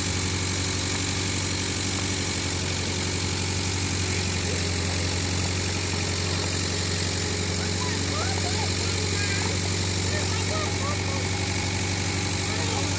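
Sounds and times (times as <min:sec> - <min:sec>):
loader engine idling: 0:00.0 - 0:12.9.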